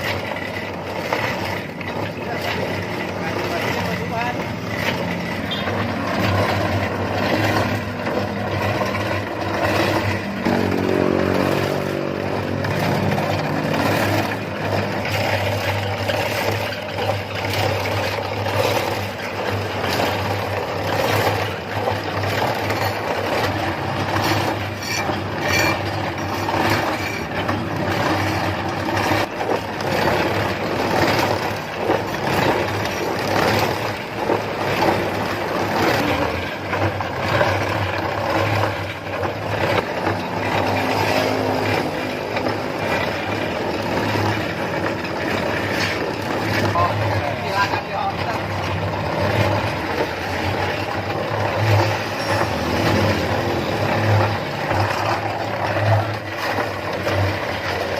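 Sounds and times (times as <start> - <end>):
cement mix rattling and knocking: 0.0 - 57.9.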